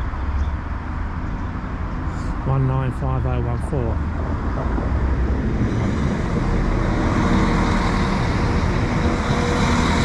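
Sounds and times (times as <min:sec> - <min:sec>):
diesel train engine rumble: 0:00.0 - 0:10.0.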